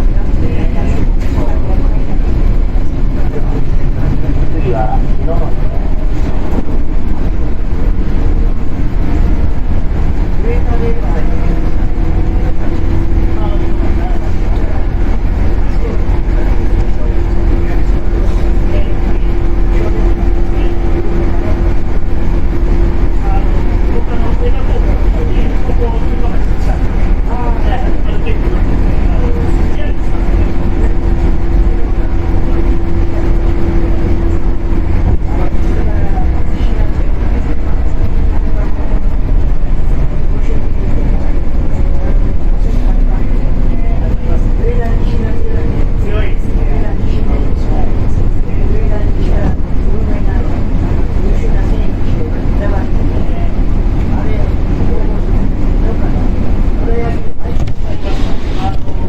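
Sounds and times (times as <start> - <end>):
constant train hum: 0.0 - 59.0
train wheels rumbling on rail: 0.0 - 59.0.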